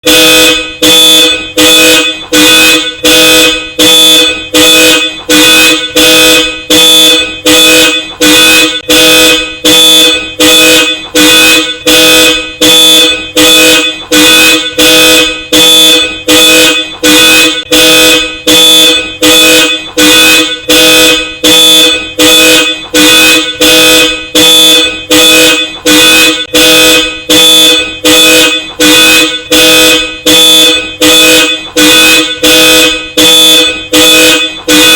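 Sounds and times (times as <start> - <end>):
two-tone car horn honking: 0.0 - 34.9.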